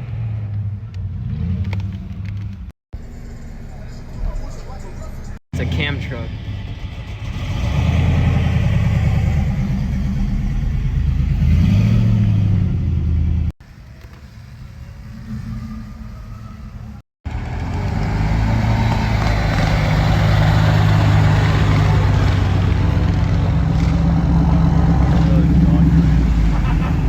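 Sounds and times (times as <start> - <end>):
truck engine with choppy idle: 1.7 - 18.2, 19.0 - 27.0.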